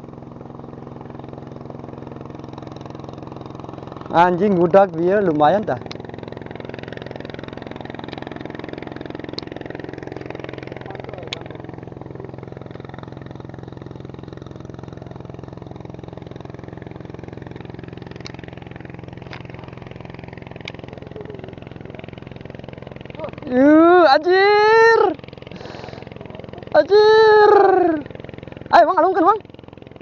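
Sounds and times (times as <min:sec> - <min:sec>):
small engine idling: 0:00.0 - 0:30.0.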